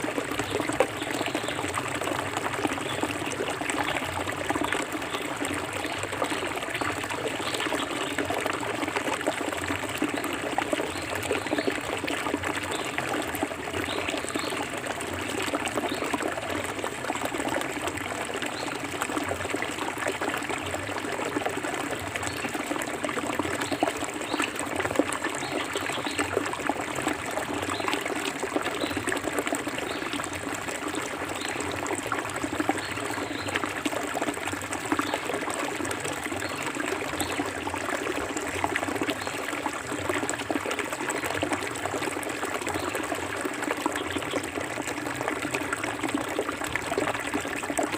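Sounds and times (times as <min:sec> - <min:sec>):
stream splashing over rocks: 0:00.0 - 0:47.9.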